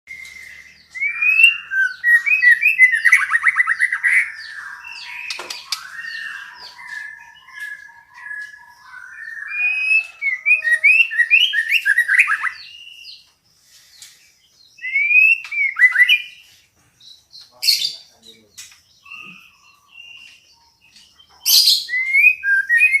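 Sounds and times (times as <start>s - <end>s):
bird whistling and trilling: 0.1s - 13.3s, 14.8s - 16.6s, 19.0s - 23.0s.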